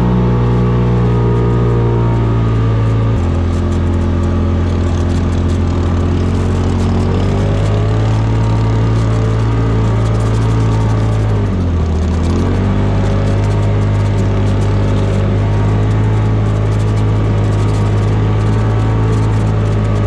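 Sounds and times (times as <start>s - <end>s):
vehicle engine running hard: 0.0s - 20.0s.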